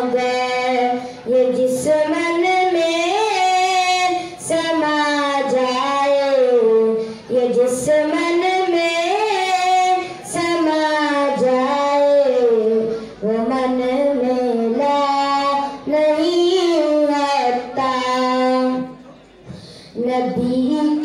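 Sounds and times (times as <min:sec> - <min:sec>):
boy singing unaccompanied: 0:00.0 - 0:19.0, 0:19.8 - 0:21.0.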